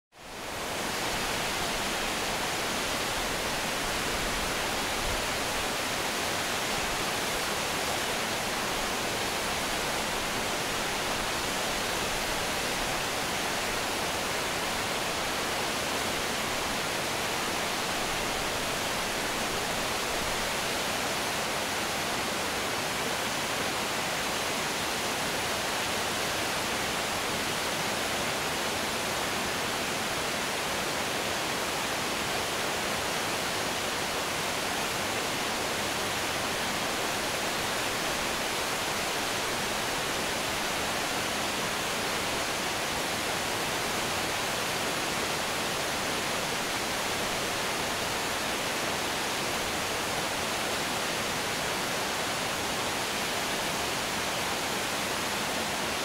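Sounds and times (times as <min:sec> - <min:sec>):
waterfall rushing into rapids: 0:00.2 - 0:56.0.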